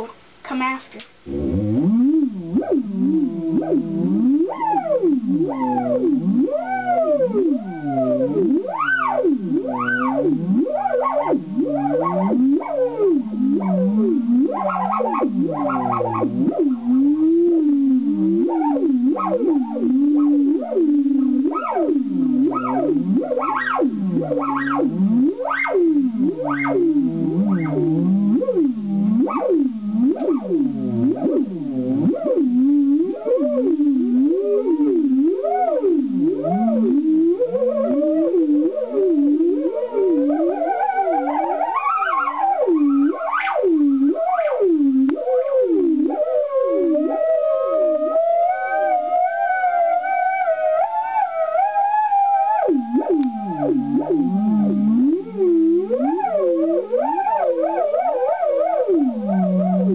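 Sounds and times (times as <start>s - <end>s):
steady low electronic tone: 0.0s - 48.2s, 52.5s - 56.3s
theremin pitch swoops: 0.0s - 59.9s.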